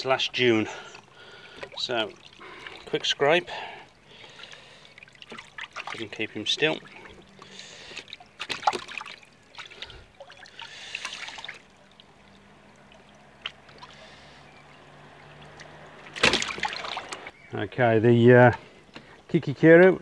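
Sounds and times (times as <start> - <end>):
water splashing in plastic bowl: 1.2 - 17.3.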